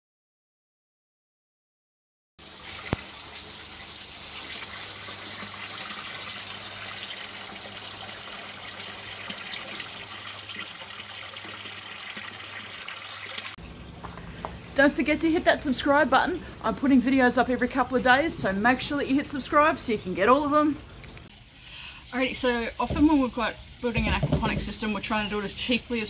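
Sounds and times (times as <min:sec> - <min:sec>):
water trickling through pipes: 0:02.4 - 0:26.0.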